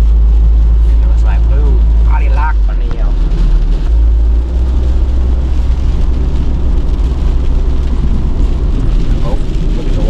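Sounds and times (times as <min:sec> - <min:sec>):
car road and wind noise: 0:00.0 - 0:10.0.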